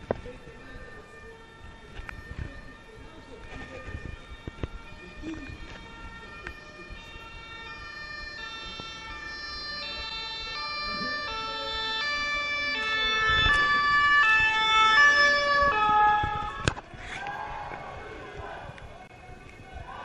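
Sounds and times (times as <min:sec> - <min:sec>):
two-tone siren: 0:00.0 - 0:16.8
traffic passing: 0:00.0 - 0:16.9.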